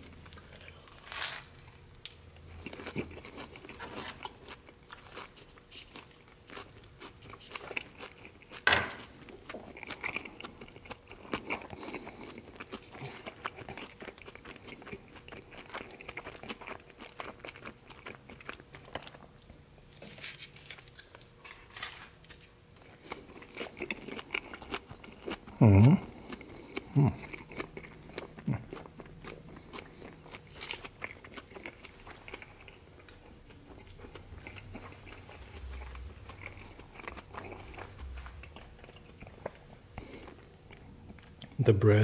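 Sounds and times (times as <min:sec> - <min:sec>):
person chewing crispy bread: 0:00.0 - 0:41.6.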